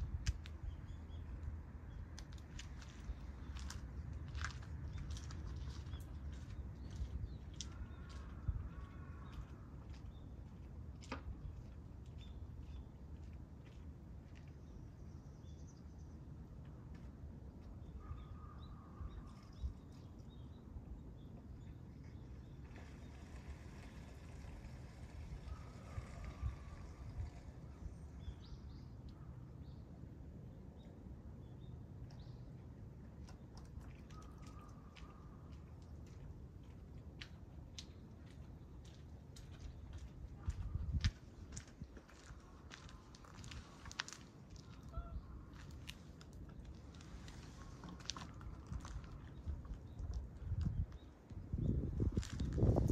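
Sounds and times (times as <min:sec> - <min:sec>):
low outdoor rumble: 0:00.0 - 0:52.9.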